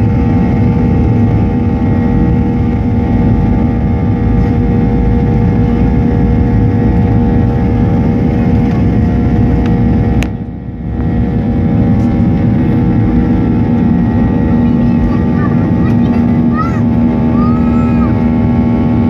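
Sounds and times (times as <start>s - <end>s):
airliner cabin rumble and engine whine: 0.0s - 19.0s.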